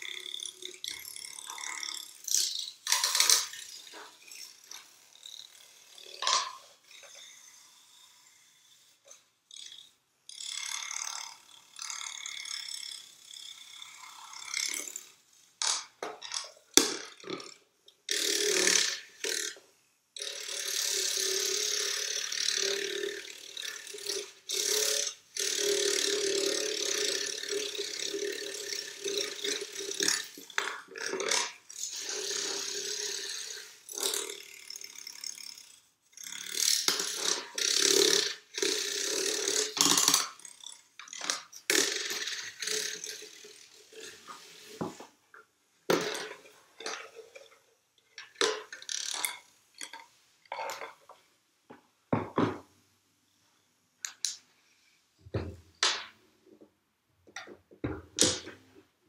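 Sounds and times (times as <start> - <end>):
handheld tool rattling and scraping: 0.0 - 51.4, 57.3 - 58.8.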